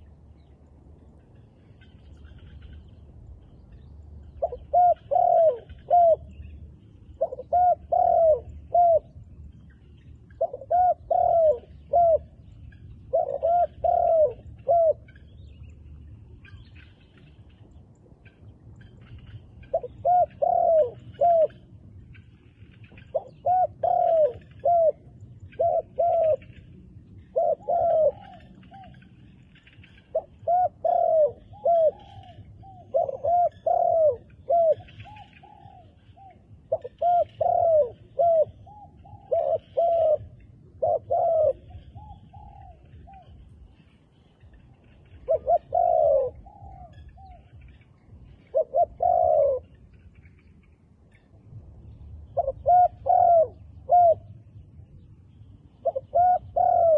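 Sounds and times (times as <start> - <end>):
doves cooing: 0.0 - 54.8, 55.6 - 56.9.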